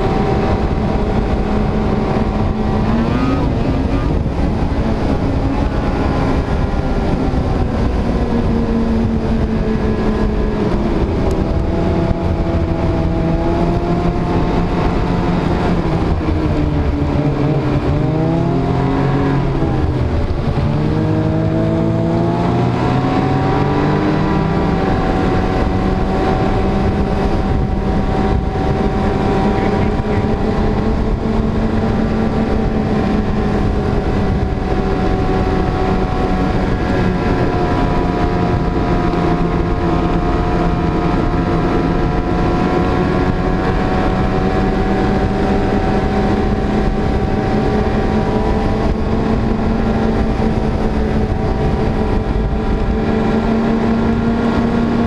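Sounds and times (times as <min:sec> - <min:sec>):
snowmobile engine: 0:00.0 - 0:55.0.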